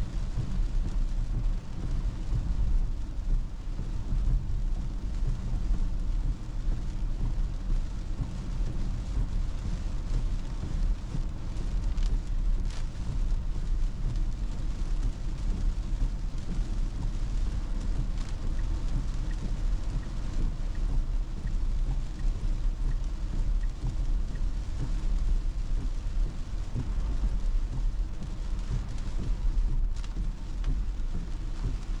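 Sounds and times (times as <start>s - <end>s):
rain hiss: 0.0s - 32.0s
road and tyre rumble: 0.0s - 32.0s.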